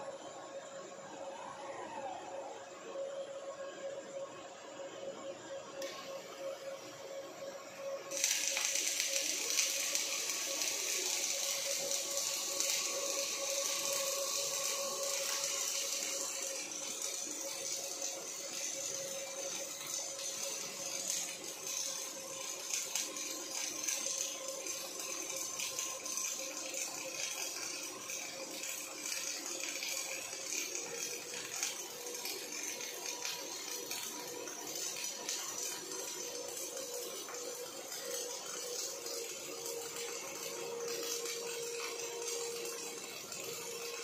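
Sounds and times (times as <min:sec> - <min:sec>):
welding arc crackling: 0:05.8 - 0:44.0.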